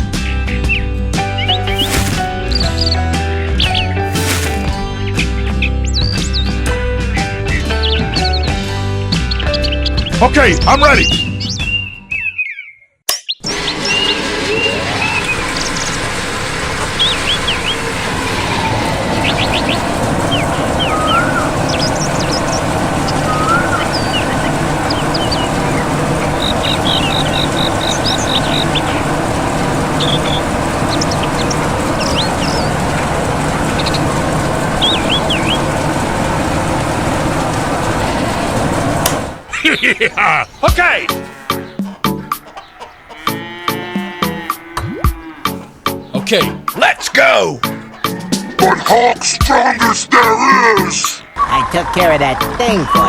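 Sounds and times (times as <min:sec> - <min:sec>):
birds chirping: 0:00.1 - 0:38.6, 0:39.2 - 0:53.0.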